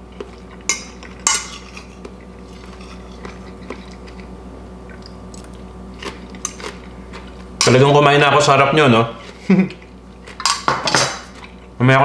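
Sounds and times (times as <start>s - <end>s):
person chewing food: 0.0s - 7.6s, 9.1s - 11.7s
low room hum: 0.0s - 12.0s.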